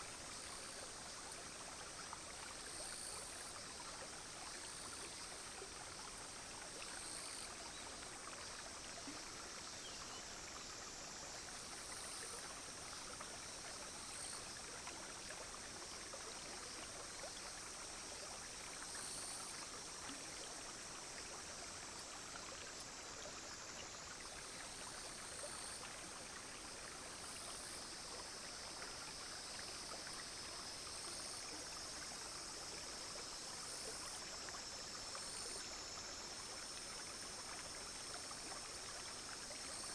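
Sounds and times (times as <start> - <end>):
insects droning: 0.0 - 39.9
small stream flowing: 0.0 - 39.9.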